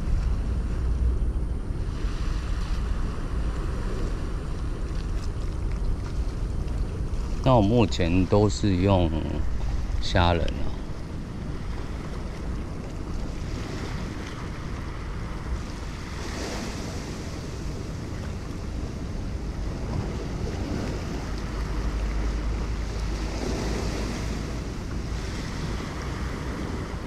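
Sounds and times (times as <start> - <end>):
surf washing over rocks: 0.0 - 27.0
wind buffeting microphone: 0.0 - 27.0.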